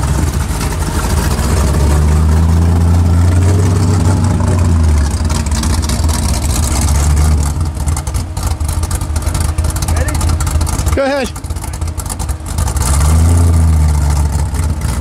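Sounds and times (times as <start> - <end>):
pickup truck engine droning: 0.0 - 15.0.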